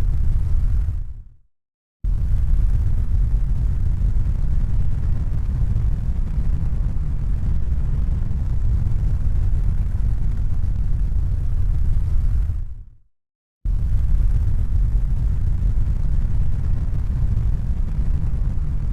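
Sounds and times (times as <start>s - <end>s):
deep rumbling noise: 0.0s - 1.3s, 2.1s - 12.8s, 13.7s - 18.9s.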